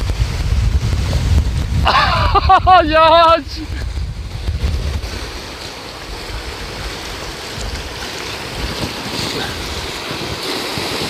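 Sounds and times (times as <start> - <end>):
waves breaking on rocks: 0.0 - 11.0
wind buffeting microphone: 0.0 - 11.0.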